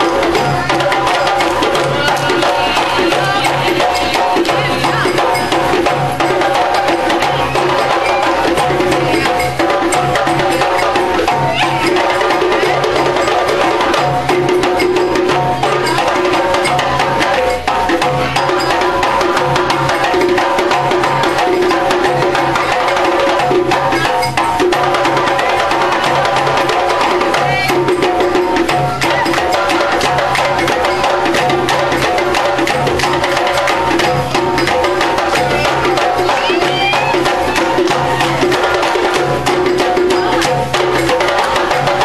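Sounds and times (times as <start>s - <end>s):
hand drums and percussion: 0.0s - 42.0s.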